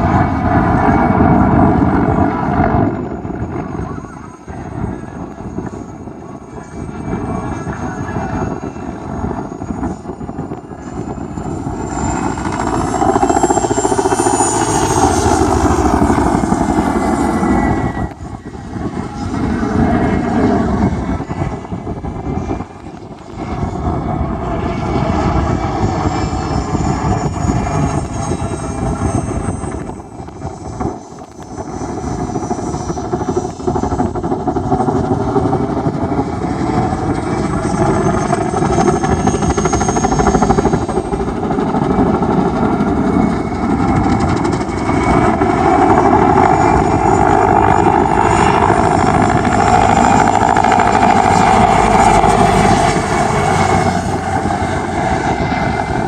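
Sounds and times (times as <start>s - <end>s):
helicopter engines and rotor: 0.0s - 56.0s.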